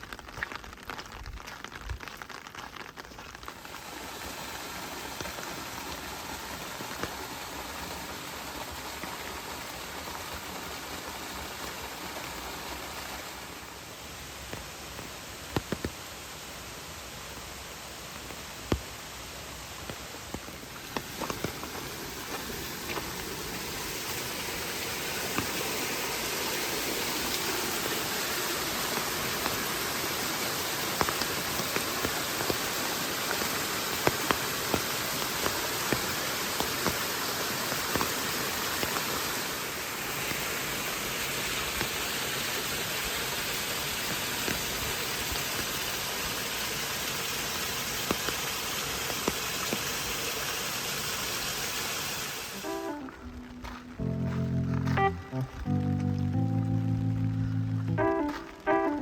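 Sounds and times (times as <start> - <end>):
raindrops tapping a surface: 0.0 - 16.1, 17.2 - 24.2, 25.0 - 50.5, 53.0 - 59.0
steady rain falling: 0.0 - 59.0.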